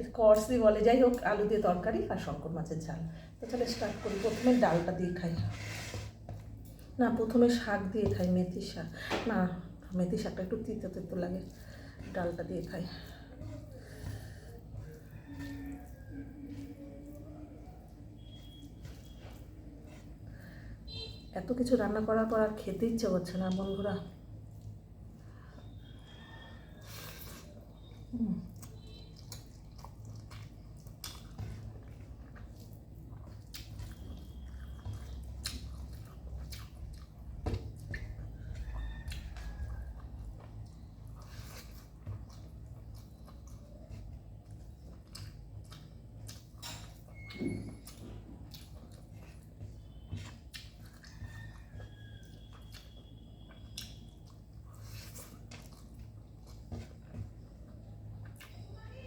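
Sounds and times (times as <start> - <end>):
low steady hum: 0.0 - 59.0
wet squishes of chewing: 0.0 - 59.0.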